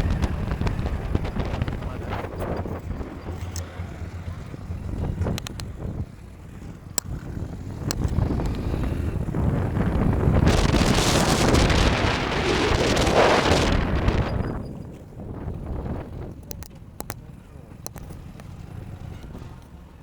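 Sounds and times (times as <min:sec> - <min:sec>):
wind rushing over microphone: 0:00.0 - 0:17.1
road noise: 0:00.0 - 0:20.0.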